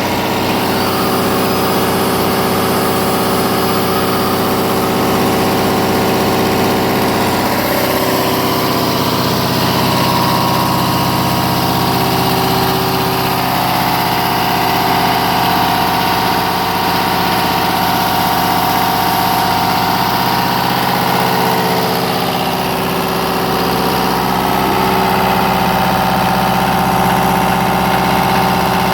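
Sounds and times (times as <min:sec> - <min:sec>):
diesel generator running: 0:00.0 - 0:28.9.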